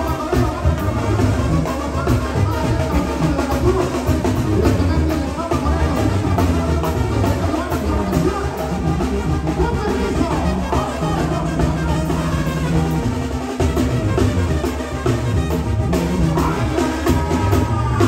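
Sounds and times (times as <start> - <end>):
accordion: 0.0 - 18.0
bass line: 0.0 - 18.0
drums: 0.0 - 18.0.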